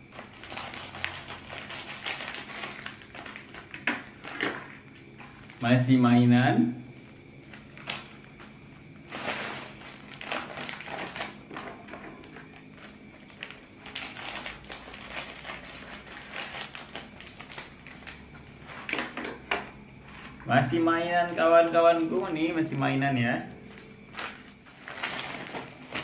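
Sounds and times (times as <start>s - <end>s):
plastic packets crinkling: 0.0s - 5.8s, 7.0s - 26.0s
faint steady hum: 0.0s - 26.0s.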